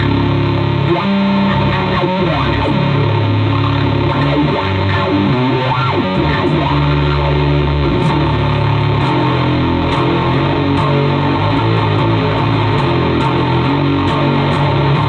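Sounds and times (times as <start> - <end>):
distorted electric bass: 0.0 - 15.0.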